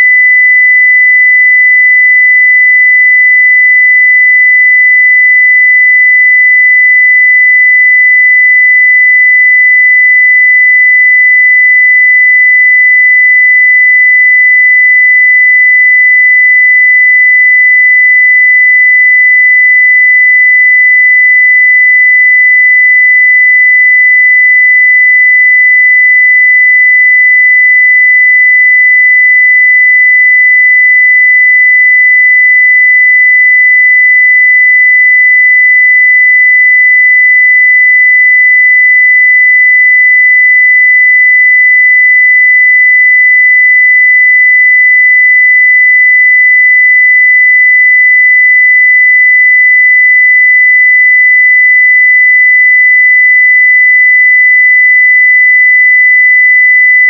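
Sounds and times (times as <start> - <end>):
sine-wave test tone: 0.0 - 57.0.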